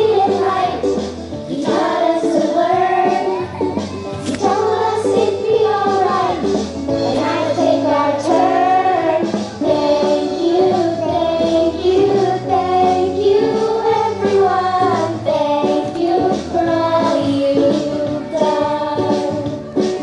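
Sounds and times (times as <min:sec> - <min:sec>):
children singing: 0:00.0 - 0:20.0
musical accompaniment: 0:00.0 - 0:20.0.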